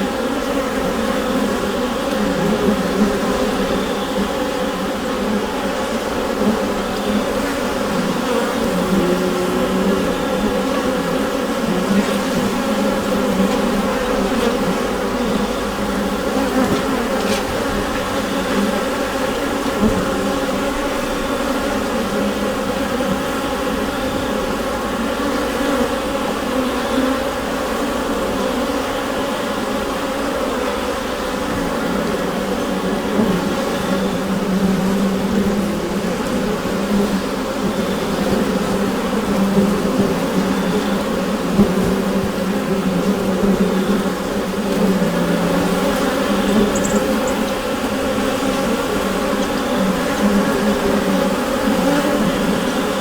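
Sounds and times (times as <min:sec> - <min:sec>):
bees buzzing in hive: 0:00.0 - 0:53.0.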